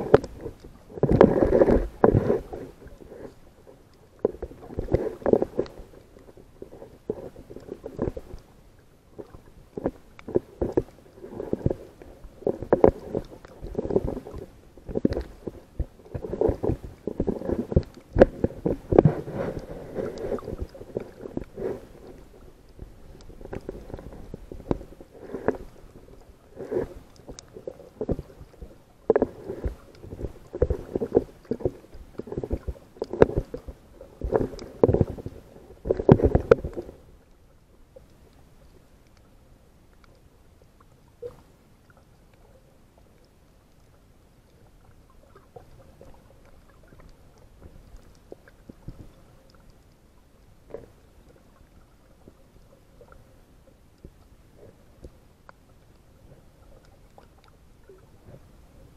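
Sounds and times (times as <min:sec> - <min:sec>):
water sloshing and gurgling: 0:00.0 - 0:58.9.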